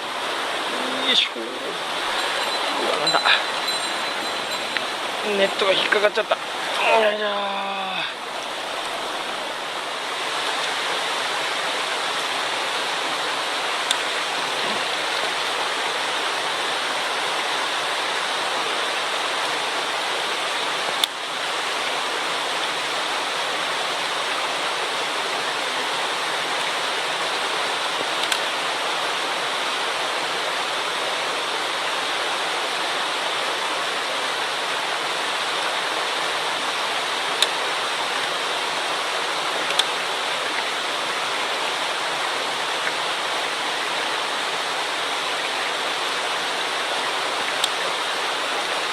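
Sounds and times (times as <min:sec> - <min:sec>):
mountain stream rushing: 0:00.0 - 0:48.9.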